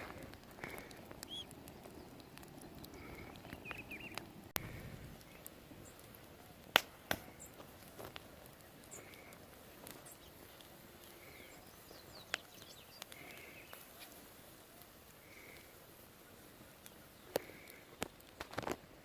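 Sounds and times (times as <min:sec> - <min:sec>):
nuts cracking and popping on fire: 0:00.0 - 0:19.0.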